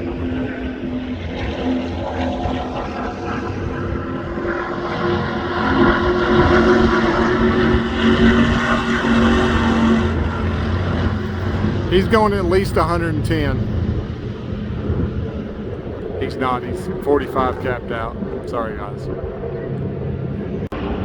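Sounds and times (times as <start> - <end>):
road and wind noise: 0.0 - 21.0
vehicle engine running: 0.0 - 21.0.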